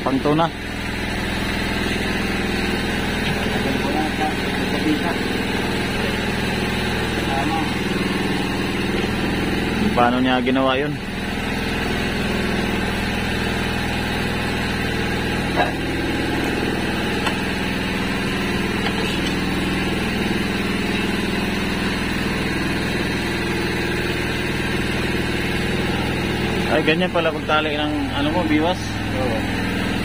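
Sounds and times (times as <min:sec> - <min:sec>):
small boat engine idling: 0:00.0 - 0:30.0.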